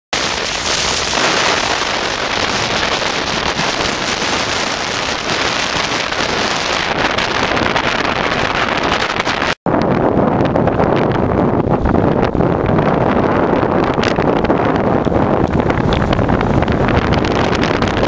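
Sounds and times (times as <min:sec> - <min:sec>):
strong wind buffeting microphone: 0:00.2 - 0:18.0.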